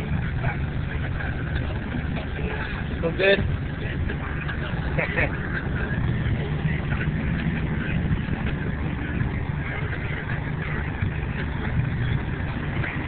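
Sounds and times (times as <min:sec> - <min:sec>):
air conditioning blowing: 0:00.0 - 0:13.0
car engine running: 0:00.0 - 0:13.0.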